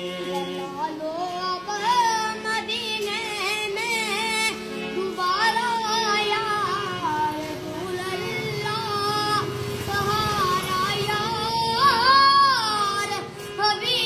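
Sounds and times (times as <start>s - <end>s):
high voice singing wordless melody: 0.0s - 14.0s
sustained accompaniment: 0.0s - 14.0s.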